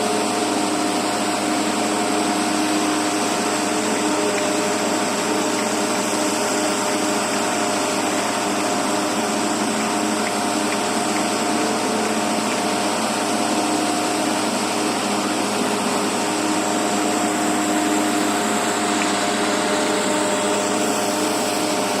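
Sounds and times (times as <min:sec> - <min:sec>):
excavator diesel engine: 0:00.0 - 0:22.0
hydraulic whine: 0:00.0 - 0:22.0.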